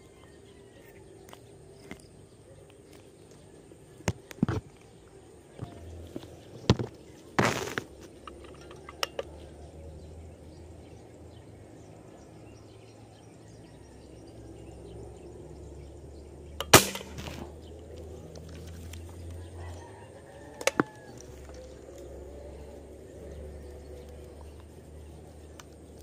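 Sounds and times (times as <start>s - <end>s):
faint birds: 0.0s - 26.0s
insects: 0.0s - 26.0s.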